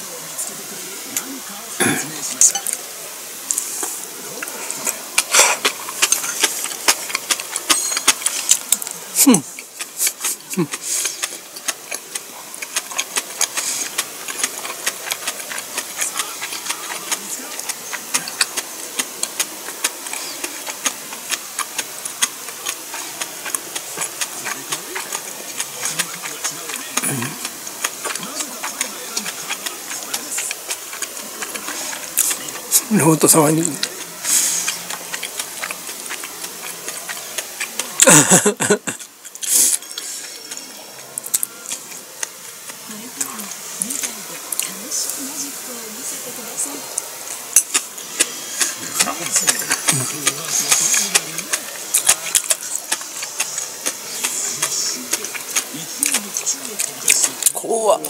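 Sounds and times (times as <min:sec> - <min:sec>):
faint hiss: 0:00.0 - 0:58.0
chewing with mouth clicks: 0:00.7 - 0:58.0.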